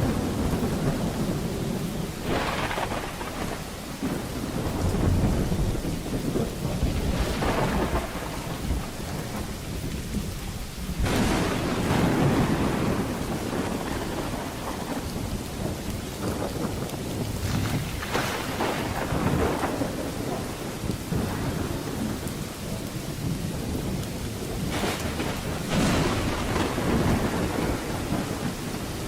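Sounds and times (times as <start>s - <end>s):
heavy rain: 0.0s - 29.0s
rolling thunder: 0.0s - 29.0s.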